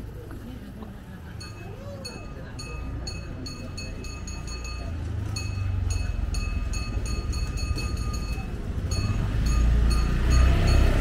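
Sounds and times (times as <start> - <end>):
vehicle engine rumble: 0.0 - 11.0
high-pitched ticking: 1.4 - 11.0.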